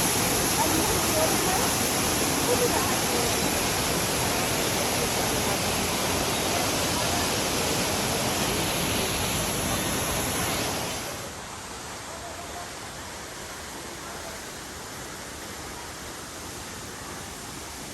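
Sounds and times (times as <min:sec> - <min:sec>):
waterfall roaring: 0:00.0 - 0:17.9.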